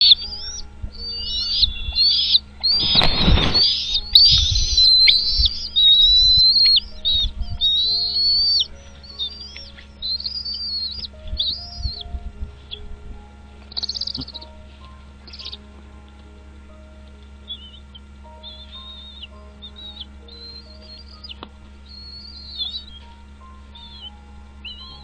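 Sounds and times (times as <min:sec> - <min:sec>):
faint background music: 0:00.0 - 0:25.0
small birds chirping: 0:00.0 - 0:25.0.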